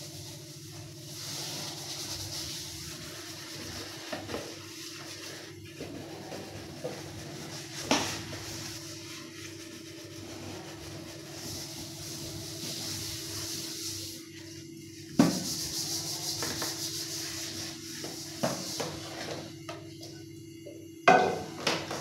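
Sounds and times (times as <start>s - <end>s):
sponge scrubbing metal bowl: 0.0s - 19.5s.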